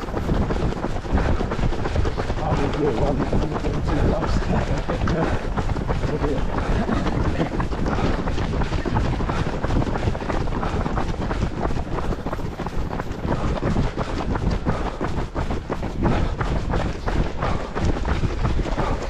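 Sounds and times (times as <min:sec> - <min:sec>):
runners' footfalls on path: 0:00.0 - 0:19.0
wind buffeting microphone: 0:00.0 - 0:19.0.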